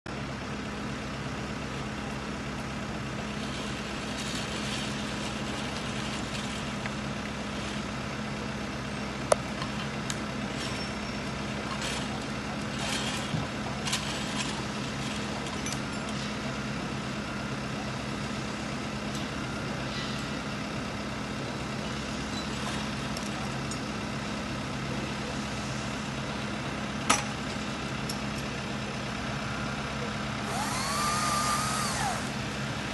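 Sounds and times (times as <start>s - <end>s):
tractor engine running: 0.1s - 32.9s.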